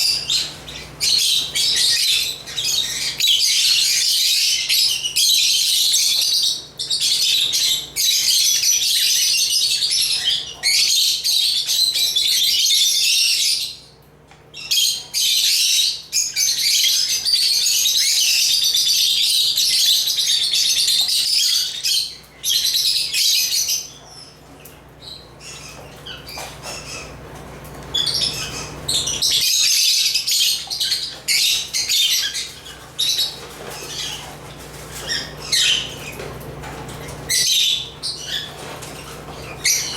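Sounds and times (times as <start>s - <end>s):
lovebirds chirping and twittering: 0.0s - 39.9s.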